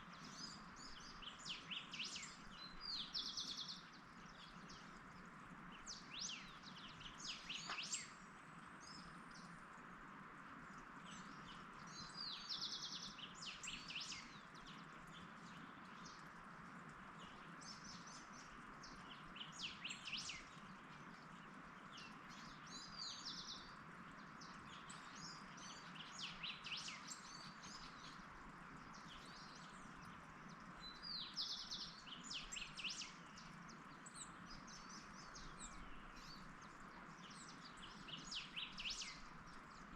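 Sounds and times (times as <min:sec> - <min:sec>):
faint background hiss: 0:00.0 - 0:39.9
wild birds singing: 0:00.0 - 0:39.9.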